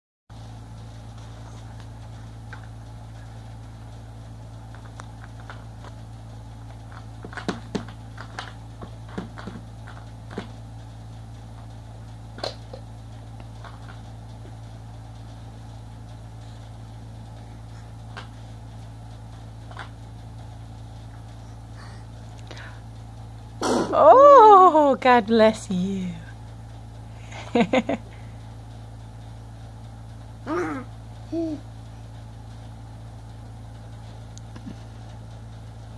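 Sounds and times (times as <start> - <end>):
steady low hum: 0.3 - 35.9.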